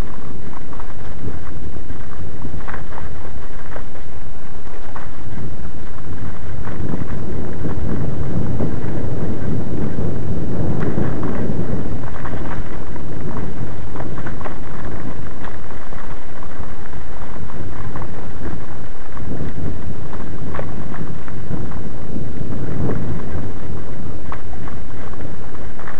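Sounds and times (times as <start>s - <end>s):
wind noise on microphone: 0.0s - 25.9s.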